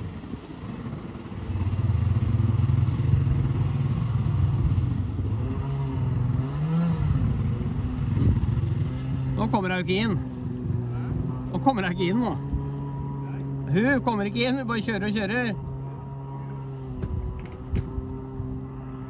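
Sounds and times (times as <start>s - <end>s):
jet ski engine pulling away: 0.0s - 19.0s.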